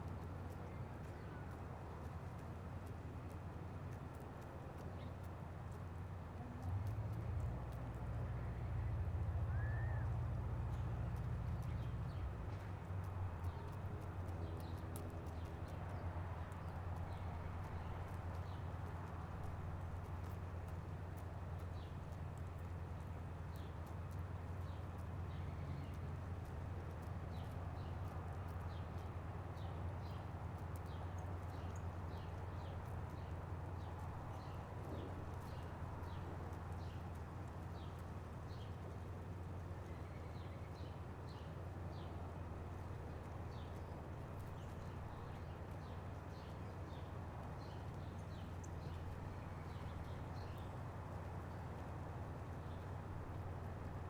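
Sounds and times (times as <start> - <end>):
small birds ticking: 0.0 - 54.0.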